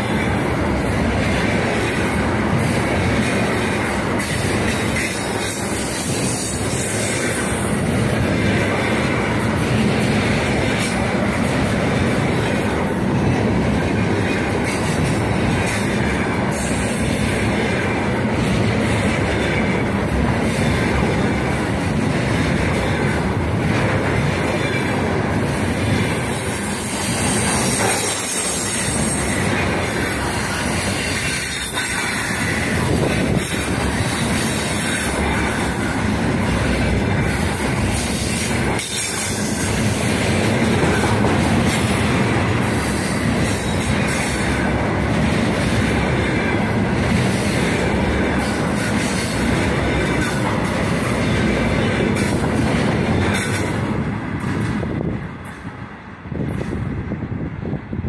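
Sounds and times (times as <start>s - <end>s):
freight wagons rolling on rails: 0.0s - 55.7s.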